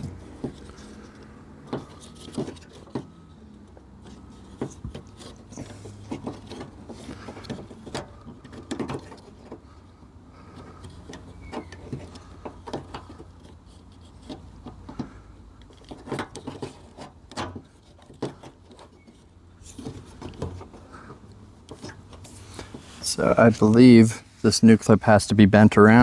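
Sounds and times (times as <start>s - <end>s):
clicks and rattles of hand work: 0.0s - 23.8s.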